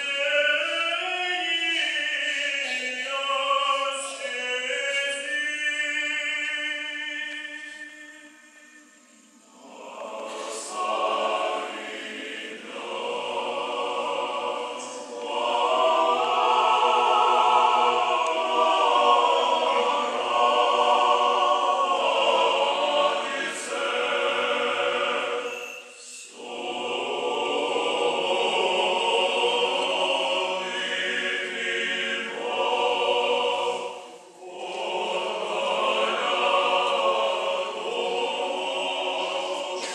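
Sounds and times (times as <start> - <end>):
choir singing a cappella chant: 0.0 - 39.9.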